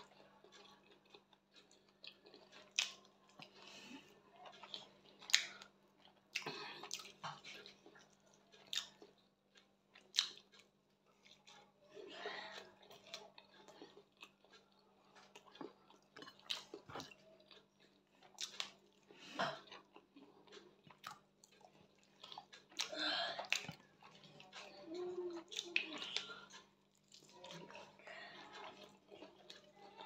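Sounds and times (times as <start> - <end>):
faint low hum: 0.0 - 30.0
person chewing: 0.0 - 30.0.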